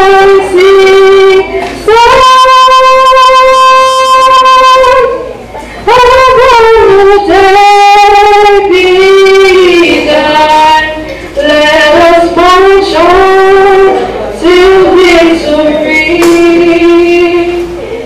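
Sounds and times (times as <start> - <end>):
woman singing slow melody: 0.0 - 17.8.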